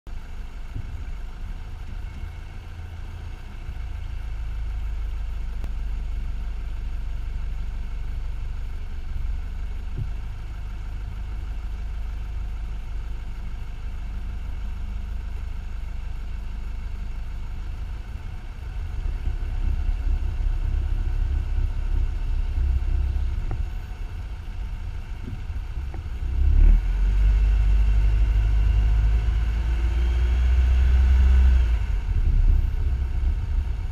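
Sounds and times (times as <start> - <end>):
car driving rumble: 0.1 - 33.9.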